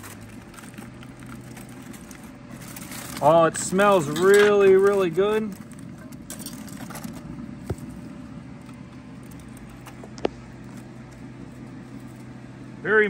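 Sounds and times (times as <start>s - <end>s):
aluminium foil crinkling: 0.0s - 12.4s
low outdoor hum: 0.0s - 13.0s.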